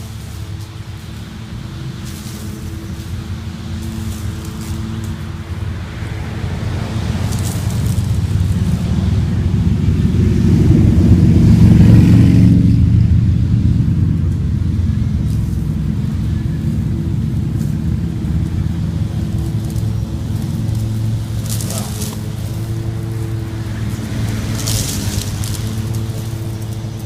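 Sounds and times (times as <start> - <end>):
lawn mower running: 0.0 - 27.0.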